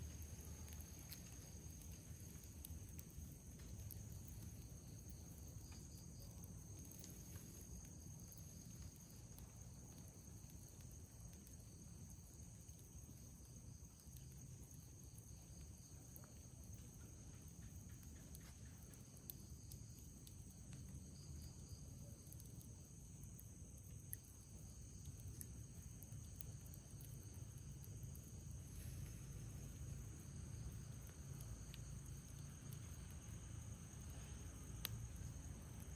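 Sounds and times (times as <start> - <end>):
insects trilling: 0.0 - 35.9.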